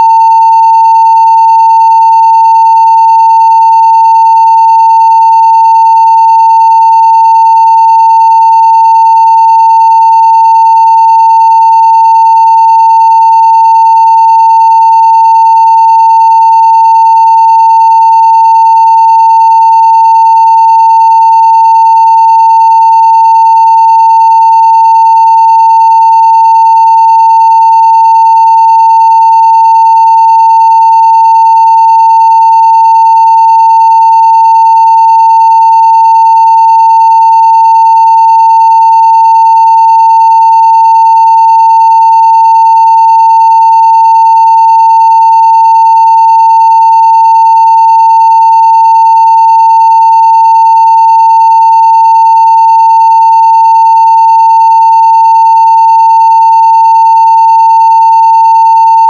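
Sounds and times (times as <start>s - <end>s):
sine-wave test tone: 0.0s - 59.0s.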